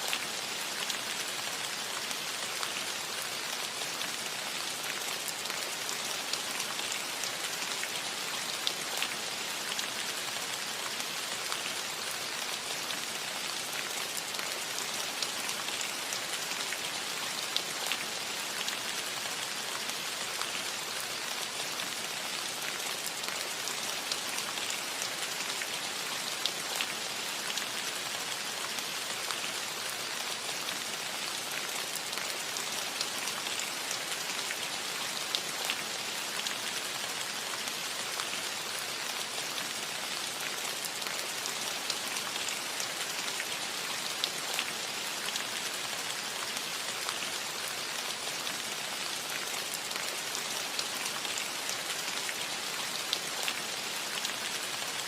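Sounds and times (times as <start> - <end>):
rain falling on a roof: 0.0 - 55.0.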